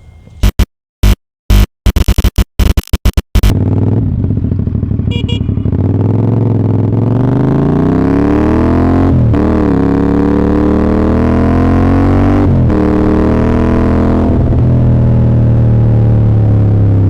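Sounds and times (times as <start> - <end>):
motorcycle engine accelerating: 3.3 - 17.0.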